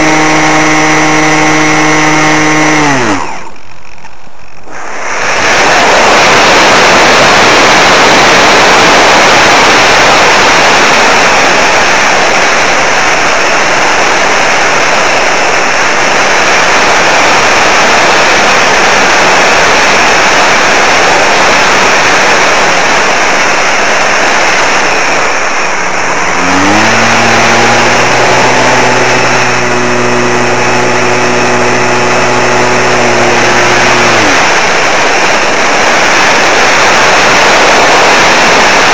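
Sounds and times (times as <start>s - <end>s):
rising hum with overtones: 0.0s - 16.5s, 23.4s - 38.9s
model aircraft motor and propeller: 0.0s - 38.9s
wind rush: 4.5s - 38.9s.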